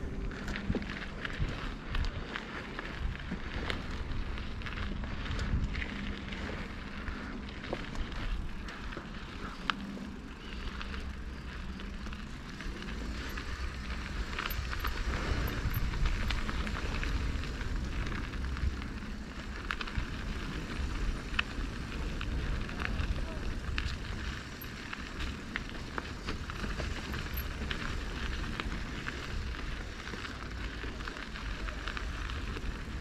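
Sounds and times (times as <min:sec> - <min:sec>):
wind on microphone: 0:00.0 - 0:30.6
bike clicks and rattles: 0:00.0 - 0:33.0
tyres crackling over dirt: 0:00.0 - 0:33.0.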